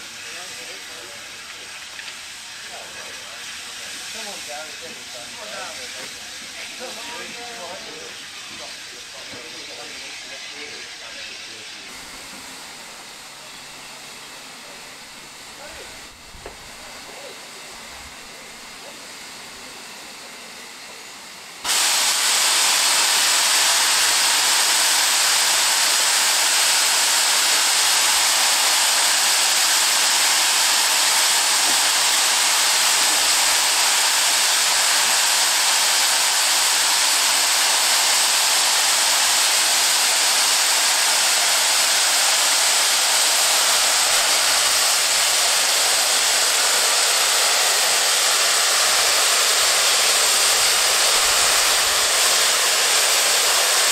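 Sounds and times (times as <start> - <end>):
steam locomotive hissing steam: 0.0 - 53.9.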